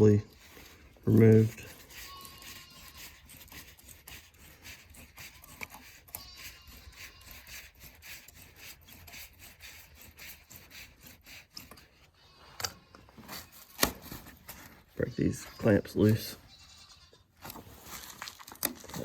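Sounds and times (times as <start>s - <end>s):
hand tool scraping metal: 0.0s - 16.4s.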